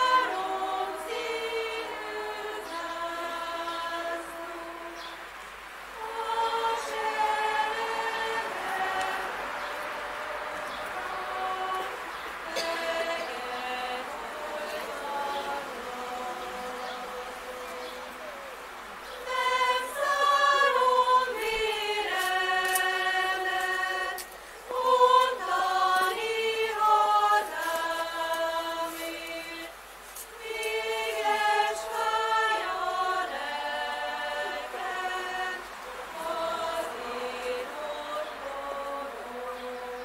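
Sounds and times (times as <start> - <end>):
women's choir singing: 0.0 - 40.0.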